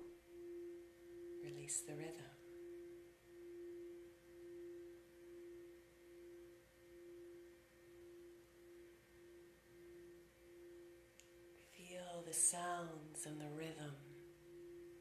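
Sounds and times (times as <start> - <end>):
tuning fork ringing: 0.0 - 15.0.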